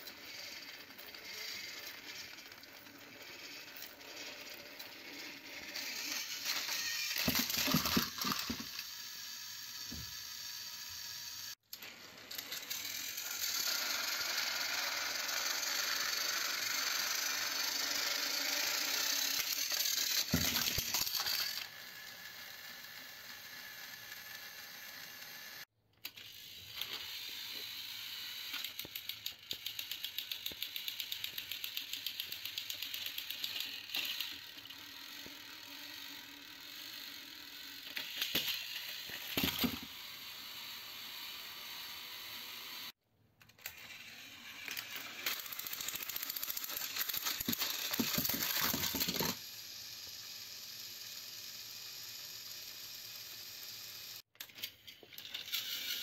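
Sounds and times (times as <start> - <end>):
toy trains whirring and clicking: 0.0 - 56.0
toy trains clattering falling: 0.1 - 9.0, 11.8 - 21.8, 28.4 - 41.9, 43.4 - 56.0.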